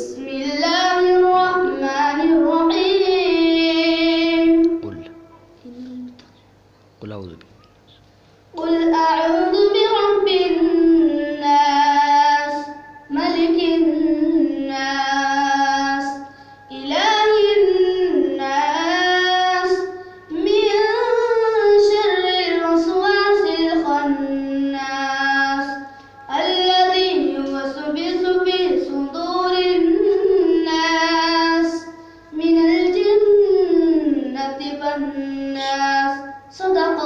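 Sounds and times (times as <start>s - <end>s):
boy singing unaccompanied: 0.0s - 6.2s, 8.5s - 37.0s.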